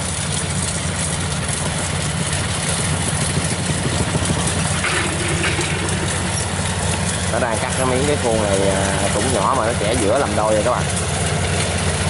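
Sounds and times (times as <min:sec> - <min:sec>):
combine harvester diesel drone: 0:00.0 - 0:12.0.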